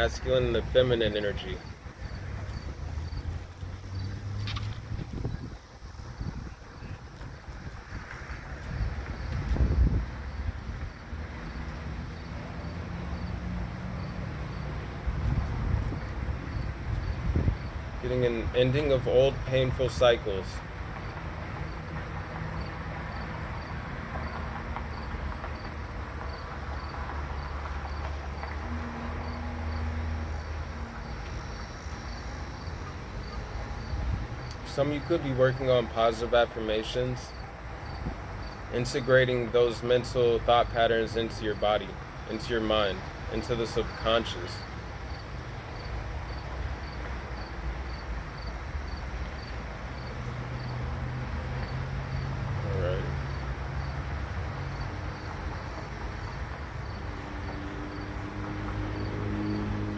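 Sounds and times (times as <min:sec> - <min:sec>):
cricket chirping: 0:01.1 - 0:14.9, 0:15.9 - 0:18.3, 0:21.0 - 0:36.1, 0:36.8 - 0:39.1, 0:42.8 - 0:59.9.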